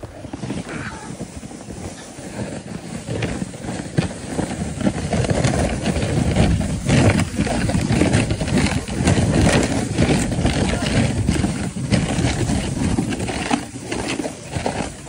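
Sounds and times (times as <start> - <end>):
sled knocking on bumps: 0.0 - 15.0
sled scraping over snow: 0.0 - 15.0.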